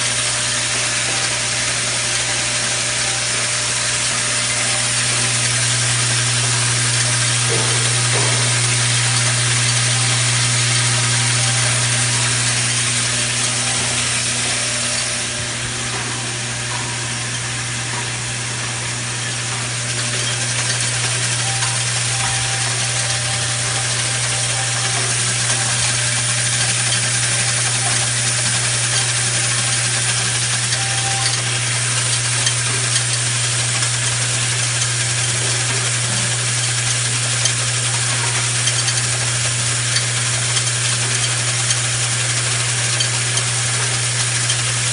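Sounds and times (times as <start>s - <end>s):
machine humming and hissing: 0.0s - 44.9s.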